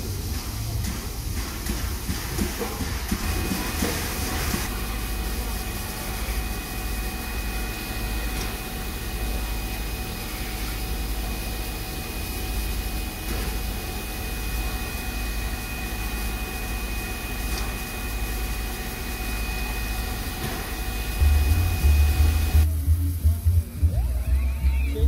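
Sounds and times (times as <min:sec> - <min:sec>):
steam locomotive hissing: 0:00.0 - 0:25.0
thin steady whine: 0:01.4 - 0:25.0.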